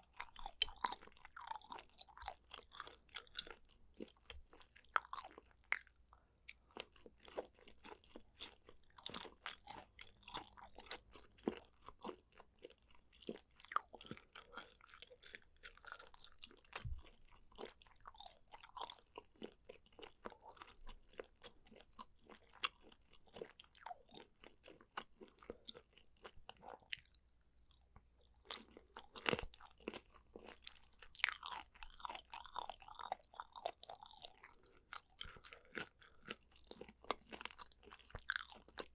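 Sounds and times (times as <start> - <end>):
chewing with crisp crunches: 0.0 - 38.9.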